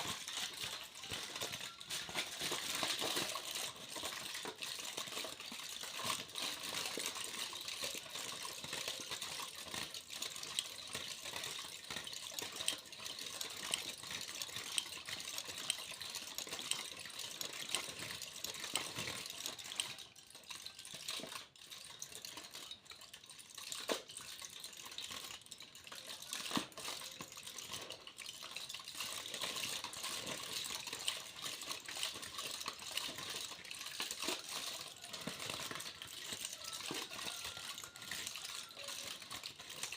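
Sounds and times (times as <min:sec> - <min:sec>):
aluminium foil crinkling: 0:00.0 - 0:39.9.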